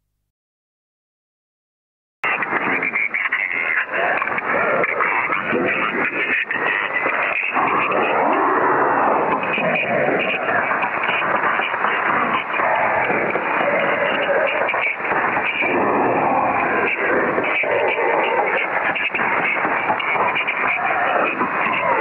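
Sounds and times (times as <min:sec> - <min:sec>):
indistinct voices: 0:02.2 - 0:22.0.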